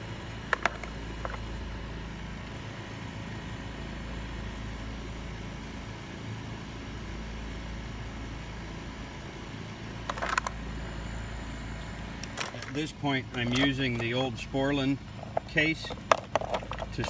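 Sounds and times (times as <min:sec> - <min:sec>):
heat pump humming: 0:00.0 - 0:17.0.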